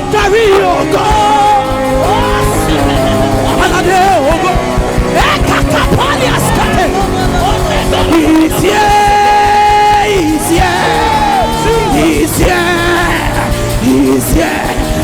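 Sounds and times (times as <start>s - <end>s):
band accompaniment: 0.0s - 15.0s
person singing long sliding notes: 0.0s - 15.0s.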